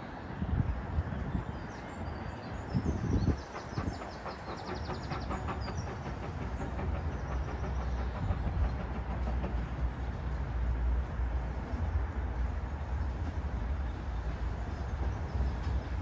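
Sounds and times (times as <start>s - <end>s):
steam train rumbling: 0.0s - 16.0s.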